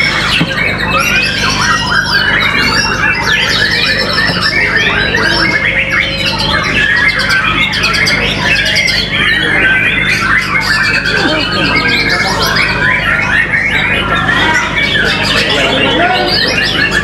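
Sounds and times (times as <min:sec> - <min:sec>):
bird singing: 0:00.0 - 0:17.0.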